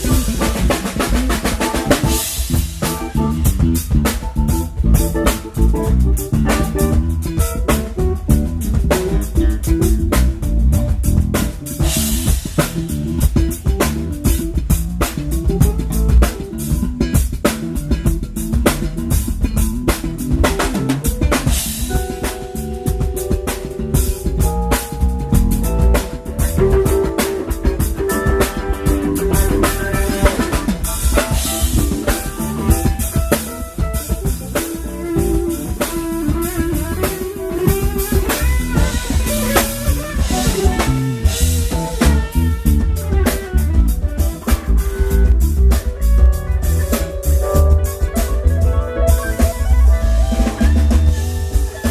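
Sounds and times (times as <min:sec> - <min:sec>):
bass drum and snare hits: 0:00.0 - 0:51.9
bass line: 0:00.0 - 0:51.9
guitar: 0:00.0 - 0:51.9
live band playing: 0:00.0 - 0:51.9.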